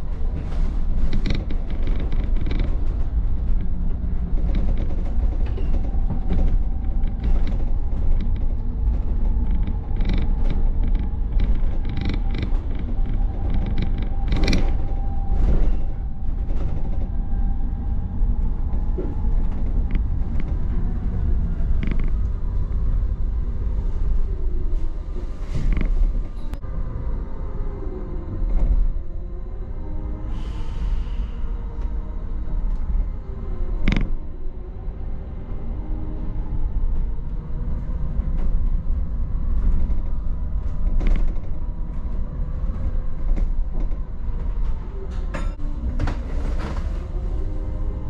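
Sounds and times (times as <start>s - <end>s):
bodywork rattles and creaks: 0.0s - 26.7s, 31.7s - 48.0s
bus road rumble: 0.0s - 48.0s.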